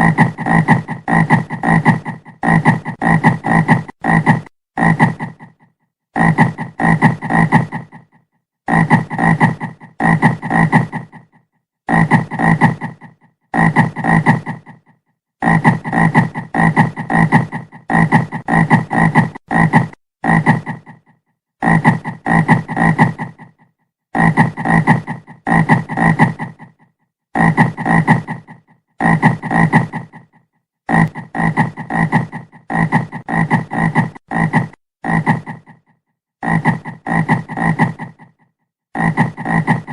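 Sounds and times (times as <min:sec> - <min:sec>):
frog croaking: 0:00.0 - 0:23.6, 0:30.9 - 0:38.4, 0:39.0 - 0:39.9.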